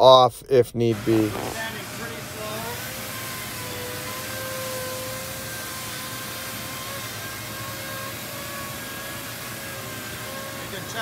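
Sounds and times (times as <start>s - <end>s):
robotic sanding machine whine: 0.9s - 11.0s
vacuum hiss: 0.9s - 11.0s.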